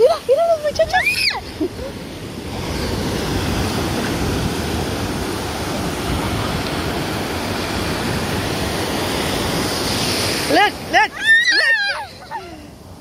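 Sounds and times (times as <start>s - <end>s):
ocean surf washing in: 0.0s - 13.0s.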